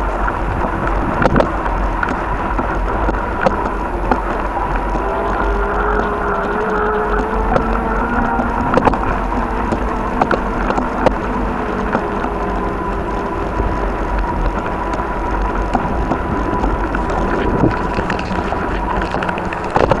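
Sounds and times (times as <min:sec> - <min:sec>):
bicycle tyre and drivetrain noise: 0:00.0 - 0:20.0
faint steady hum: 0:00.0 - 0:20.0
wind rumbling on microphone: 0:00.0 - 0:20.0.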